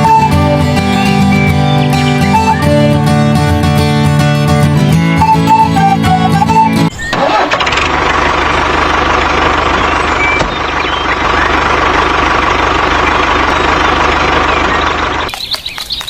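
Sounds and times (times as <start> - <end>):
engine running: 0.0 - 15.8.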